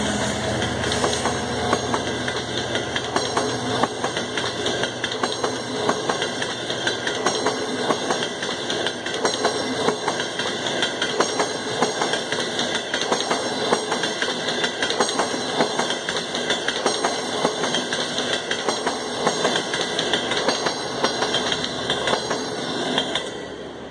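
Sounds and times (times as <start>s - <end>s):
train rumble: 0.0s - 23.9s
wheels clicking over rail joints: 0.5s - 23.5s.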